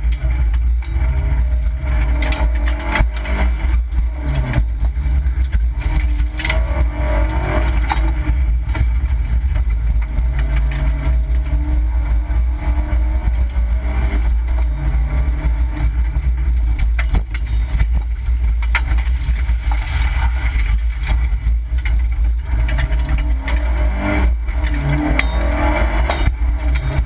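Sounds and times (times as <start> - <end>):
rally car engine revving: 0.0 - 27.0
road and wind rumble: 0.0 - 27.0.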